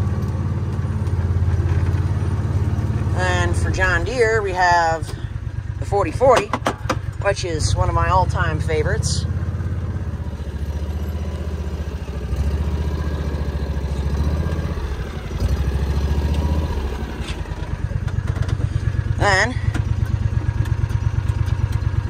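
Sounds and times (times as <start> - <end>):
engine clatter: 0.0 - 22.0
engine low rumble: 0.0 - 22.0.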